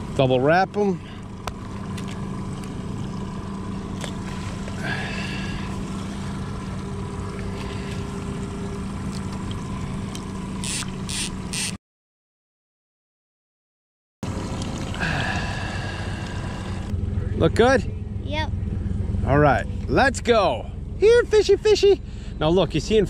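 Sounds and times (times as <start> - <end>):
outboard motor humming: 0.0 - 11.8, 14.2 - 23.0.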